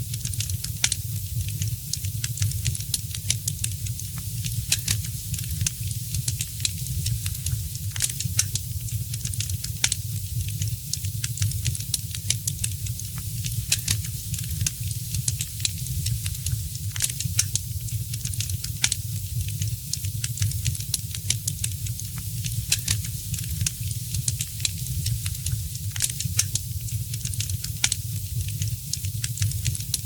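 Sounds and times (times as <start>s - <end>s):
wood fire crackling: 0.1s - 30.0s.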